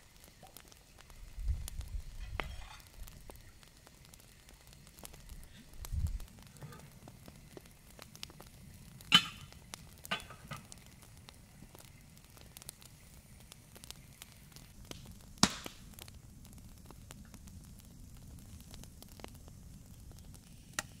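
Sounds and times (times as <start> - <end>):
sharp fire cracks: 0.0 - 21.0
wood fire crackling: 0.0 - 21.0.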